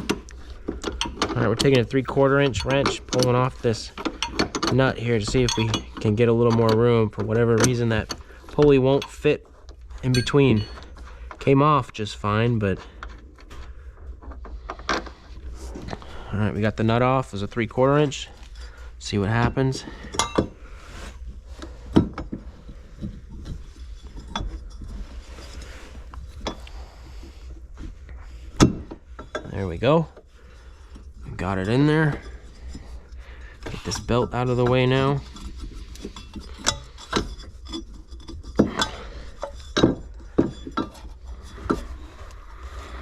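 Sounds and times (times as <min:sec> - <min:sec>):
metal clinks and knocks: 0:00.0 - 0:11.7, 0:12.6 - 0:42.5.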